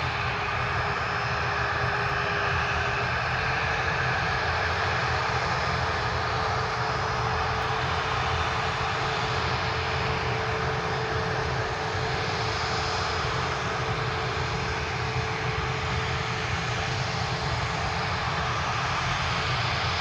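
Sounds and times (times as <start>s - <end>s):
airliner engines droning: 0.0s - 20.0s.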